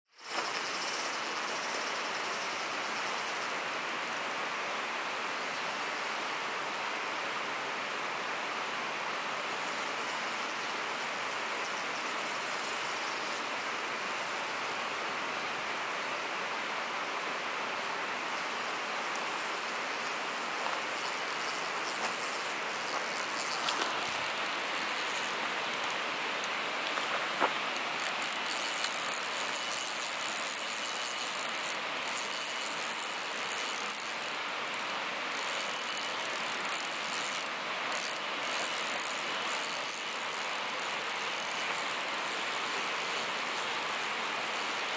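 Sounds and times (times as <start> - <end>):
fishing reel ticking: 0.1 - 4.4, 5.2 - 7.5, 9.3 - 15.6, 17.8 - 44.9
steady rushing hiss: 0.1 - 44.9.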